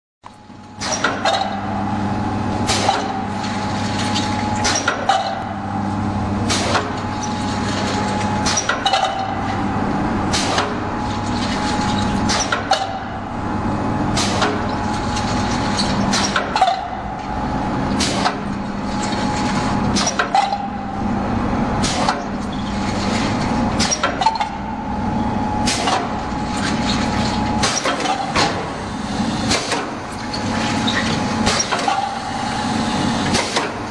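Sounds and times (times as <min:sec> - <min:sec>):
machine motor hum: 0:00.3 - 0:33.9.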